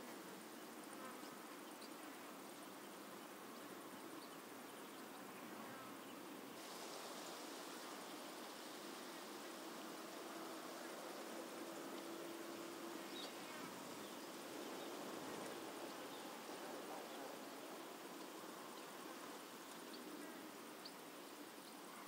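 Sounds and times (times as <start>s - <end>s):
insects buzzing: 0.0s - 22.0s
steady hiss: 0.0s - 22.0s.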